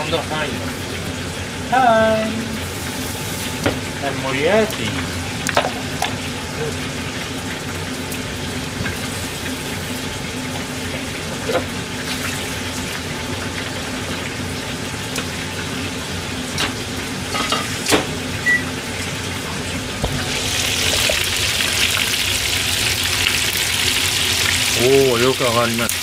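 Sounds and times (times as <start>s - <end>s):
oil sizzling while deep-frying: 0.0s - 26.0s.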